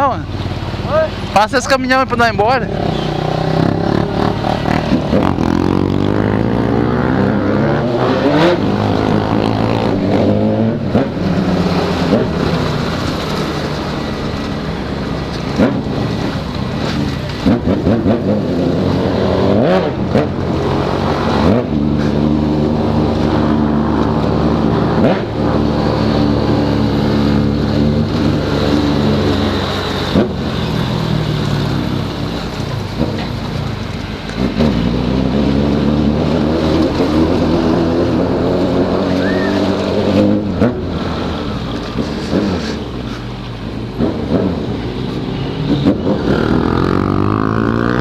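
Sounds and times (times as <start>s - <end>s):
motorcycle engine revving: 2.1s - 48.0s.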